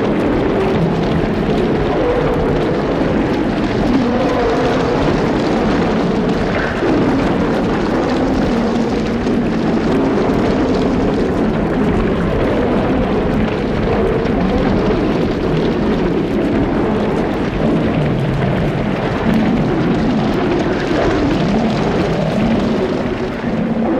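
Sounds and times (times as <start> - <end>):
lions growling and roaring: 0.0 - 23.9.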